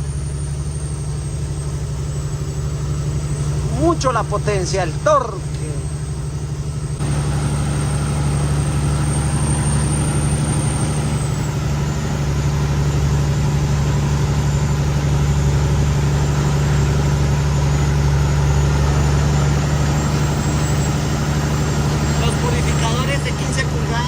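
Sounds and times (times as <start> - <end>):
diesel truck engine under load: 0.0 - 24.0.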